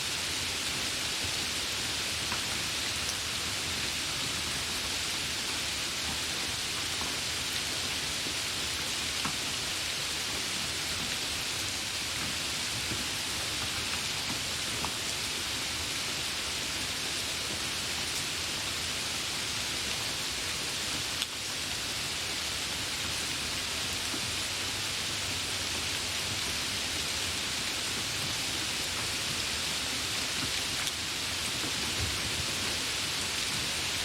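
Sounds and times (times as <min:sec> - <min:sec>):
light rain hiss: 0:00.0 - 0:34.0.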